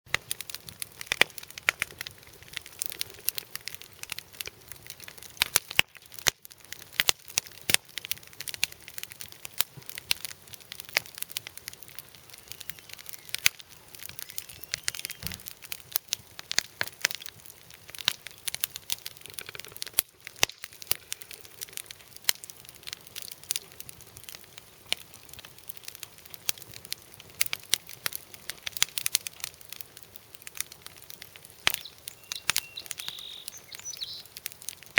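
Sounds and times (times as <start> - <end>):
campfire crackling and popping: 0.1 - 34.9.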